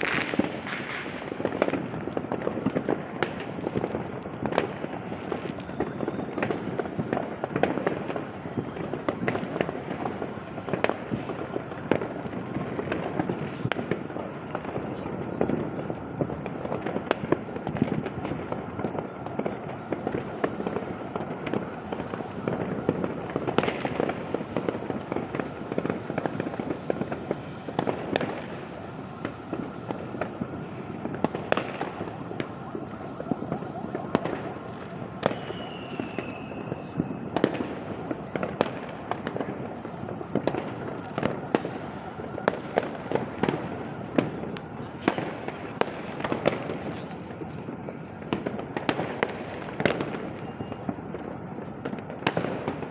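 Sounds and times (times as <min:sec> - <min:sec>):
firecracker bangs: 0:00.0 - 0:52.9
fireworks crackling: 0:00.0 - 0:52.9.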